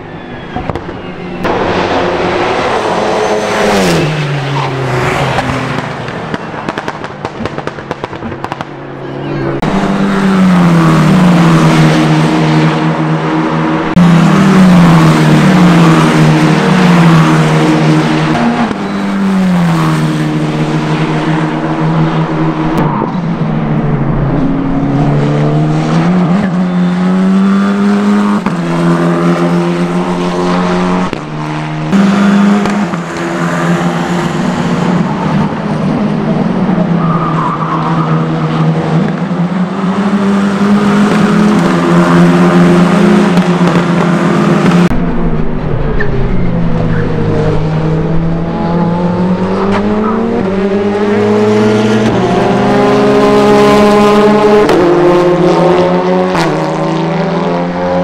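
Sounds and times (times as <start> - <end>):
racing car engines shifting gears: 0.1 - 58.0.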